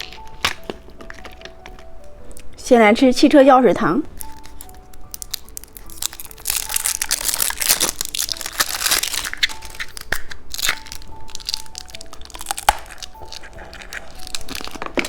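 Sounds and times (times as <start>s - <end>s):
plastic packaging crinkling: 0.0s - 2.4s, 4.1s - 15.0s.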